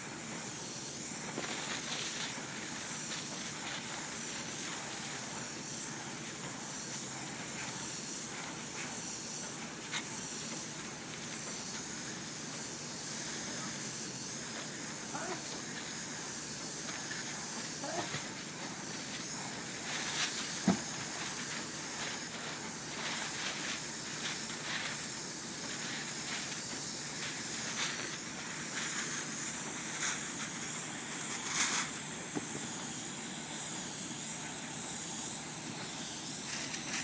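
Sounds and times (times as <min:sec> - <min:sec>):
foam spray gun hissing: 0:00.0 - 0:37.0.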